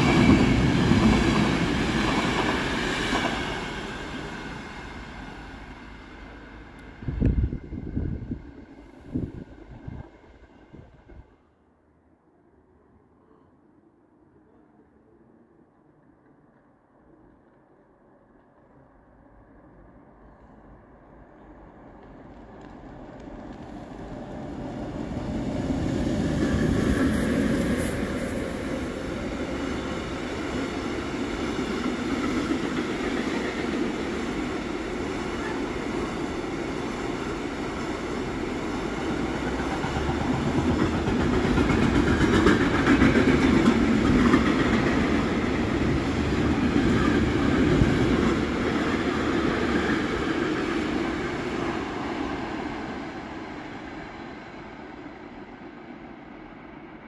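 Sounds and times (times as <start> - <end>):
train running on tracks: 0.0 - 11.6, 15.7 - 57.0.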